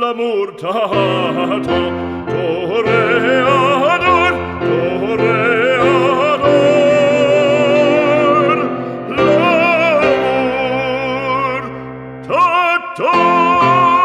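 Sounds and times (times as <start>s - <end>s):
operatic voice singing: 0.0s - 14.0s
instrumental accompaniment: 1.0s - 12.3s.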